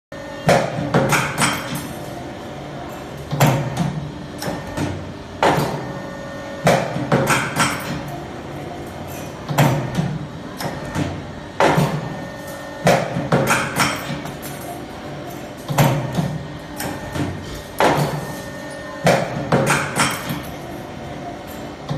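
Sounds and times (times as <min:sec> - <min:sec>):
low machine background: 0:00.1 - 0:21.9.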